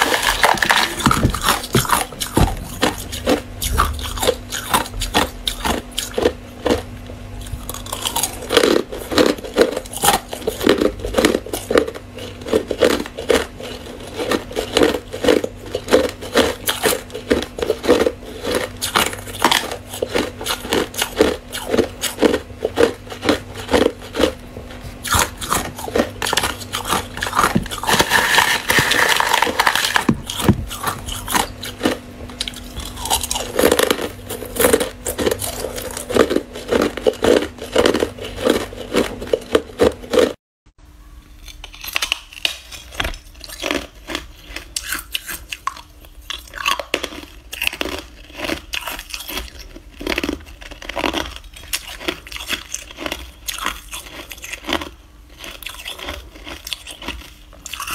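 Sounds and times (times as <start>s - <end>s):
ice being chewed: 0.0s - 40.4s, 41.4s - 57.9s.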